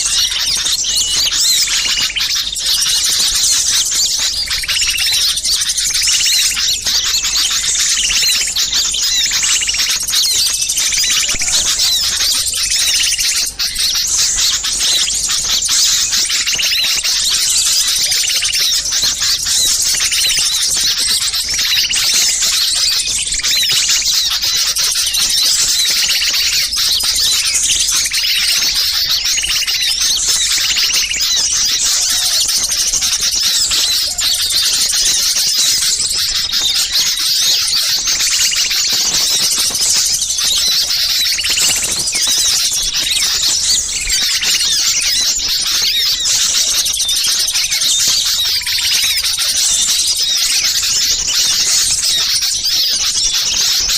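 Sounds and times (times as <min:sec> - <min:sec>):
songbirds chirping chorus: 0:00.0 - 0:53.9.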